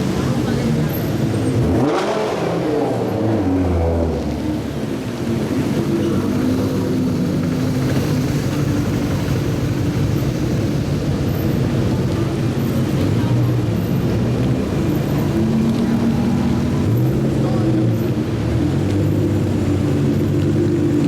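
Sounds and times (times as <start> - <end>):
car engines running at low revs: 0.0 - 21.0.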